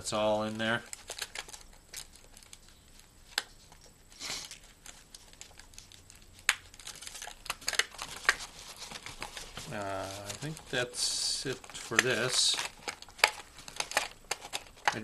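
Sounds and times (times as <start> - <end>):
nylon pouch rustling: 0.4 - 15.0.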